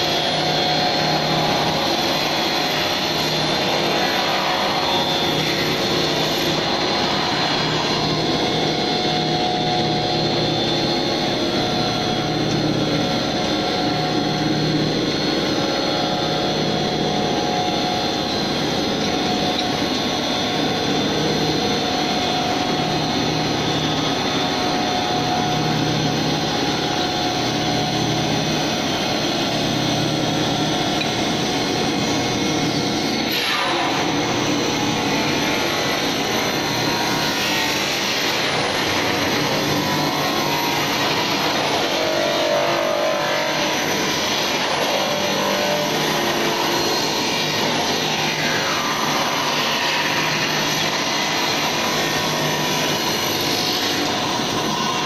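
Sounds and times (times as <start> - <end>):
machine drone with steady tones: 0.0 - 55.0.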